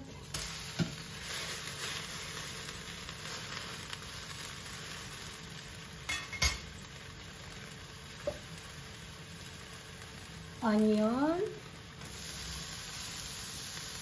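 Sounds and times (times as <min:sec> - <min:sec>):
steak sizzling in a skillet: 0:00.1 - 0:14.0.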